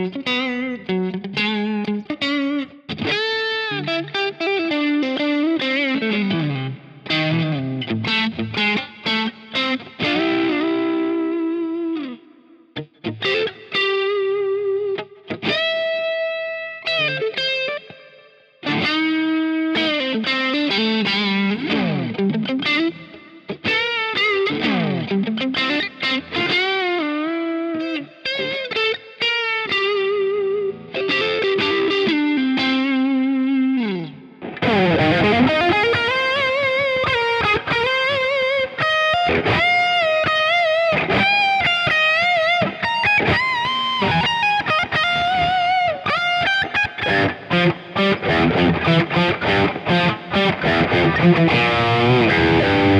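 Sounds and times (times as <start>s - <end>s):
electric guitar lead line: 0.0s - 52.9s.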